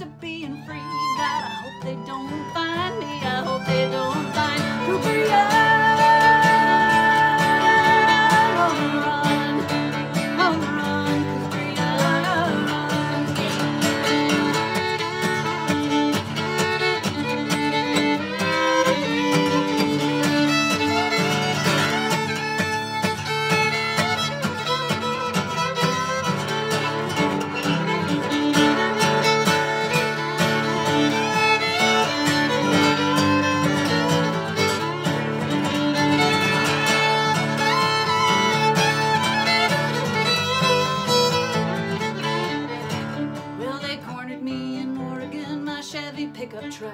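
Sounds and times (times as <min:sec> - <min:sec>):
fiddle playing: 0:00.0 - 0:46.9
strummed acoustic guitar: 0:00.0 - 0:46.9.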